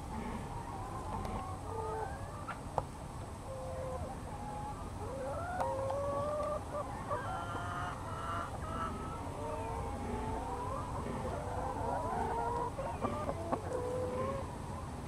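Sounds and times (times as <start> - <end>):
hens clucking and calling: 0.0 - 15.0.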